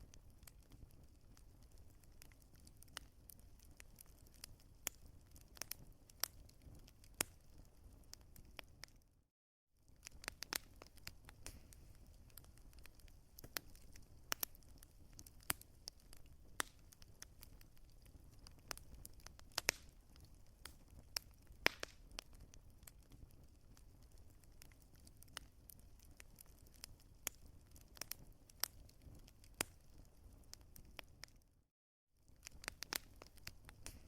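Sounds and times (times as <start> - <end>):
wood fire crackling: 0.0 - 9.1, 9.8 - 31.5, 32.2 - 34.0.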